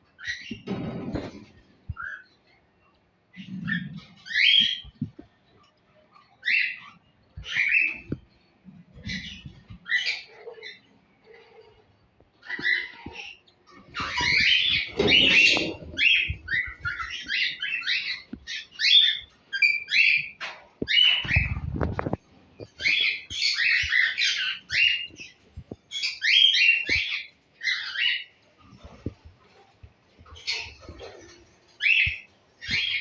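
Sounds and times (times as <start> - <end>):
cockatiels chirping: 0.2 - 2.4, 3.4 - 11.8, 12.4 - 33.0.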